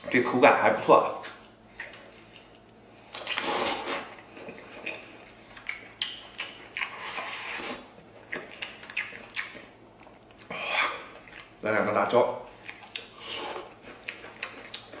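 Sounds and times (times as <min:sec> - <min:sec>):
person chewing food: 0:01.2 - 0:11.6, 0:12.5 - 0:15.0.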